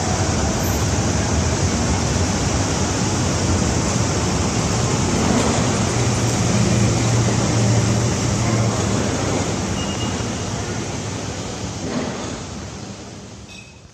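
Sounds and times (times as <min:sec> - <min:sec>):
road traffic with engine hum: 0:00.0 - 0:13.9.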